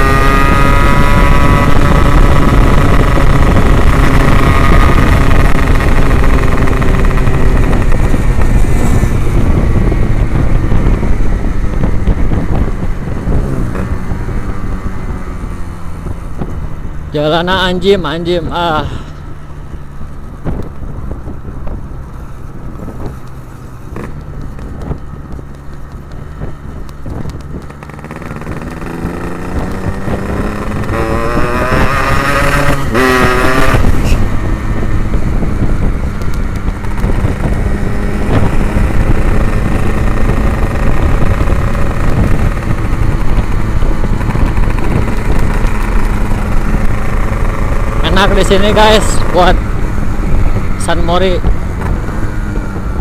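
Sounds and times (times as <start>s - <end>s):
two-stroke motorcycle engine revving: 0.0s - 19.1s, 22.8s - 53.0s.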